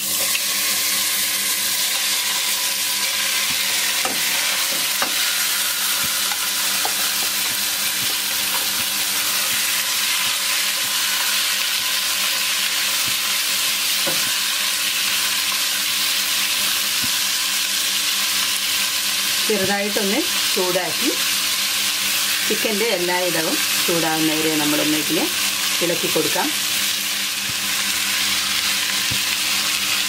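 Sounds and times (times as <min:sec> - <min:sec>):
chicken sizzling in oil: 0:00.0 - 0:30.0.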